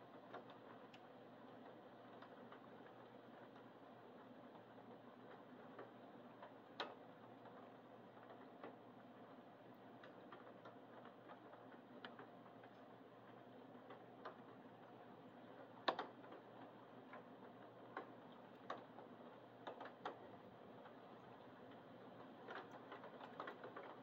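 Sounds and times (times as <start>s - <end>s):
raindrops ticking on hard surface: 0.1s - 9.0s, 9.7s - 24.0s.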